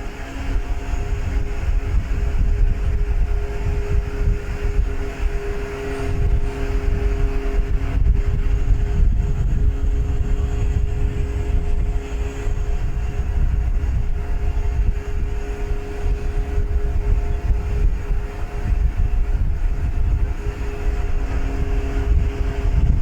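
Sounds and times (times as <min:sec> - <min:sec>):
low uneven rumble: 0:00.0 - 0:23.0
ship engine droning: 0:00.0 - 0:23.0.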